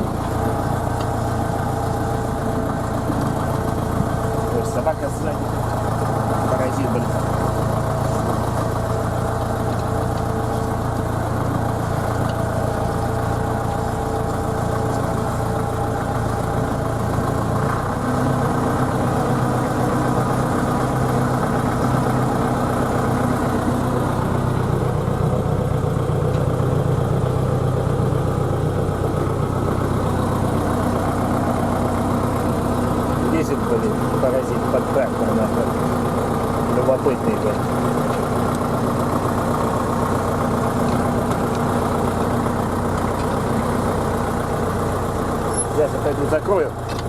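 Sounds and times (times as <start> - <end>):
tractor engine droning: 0.0 - 47.0.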